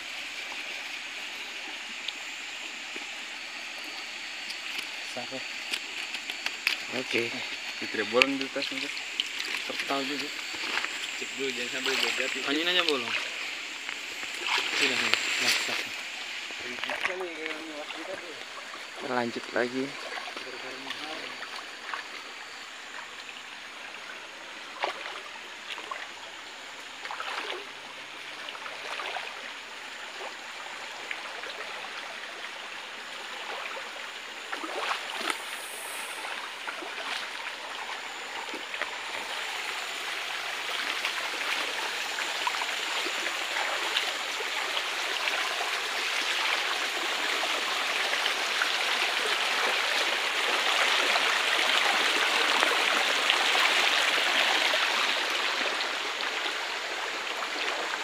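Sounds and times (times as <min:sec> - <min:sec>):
stream running over rocks: 0:00.0 - 0:58.0
wading splashes in water: 0:00.0 - 0:58.0.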